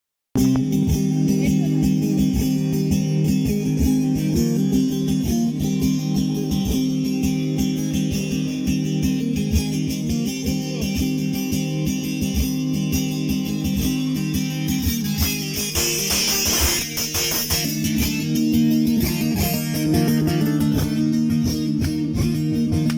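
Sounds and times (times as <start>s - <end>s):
plucked long-necked lute melody: 0.4s - 22.9s.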